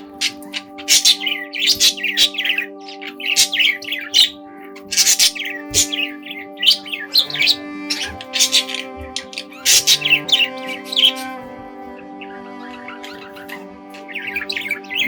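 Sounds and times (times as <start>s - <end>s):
budgerigars chirping and chattering: 0.0s - 15.0s.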